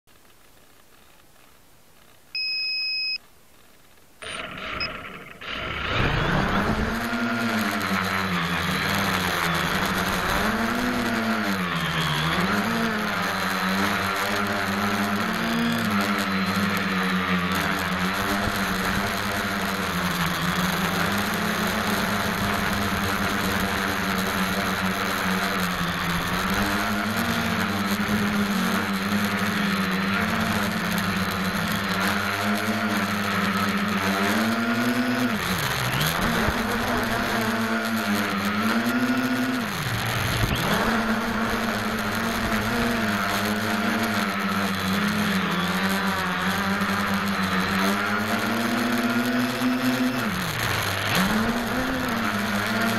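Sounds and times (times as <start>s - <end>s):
quadcopter motors whirring: 4.2s - 52.9s.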